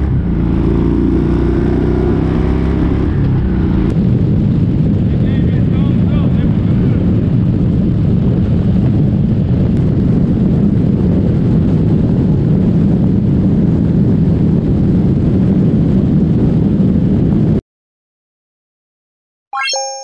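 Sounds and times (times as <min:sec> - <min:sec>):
wind rushing over microphone: 0:00.0 - 0:17.6.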